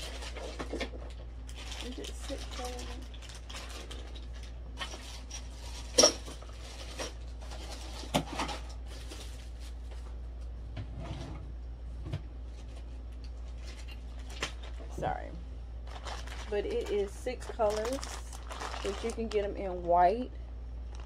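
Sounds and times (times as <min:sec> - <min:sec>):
plastic bags rustling: 0:00.0 - 0:10.2, 0:12.5 - 0:15.2, 0:15.8 - 0:20.0
low steady hum: 0:00.0 - 0:21.0.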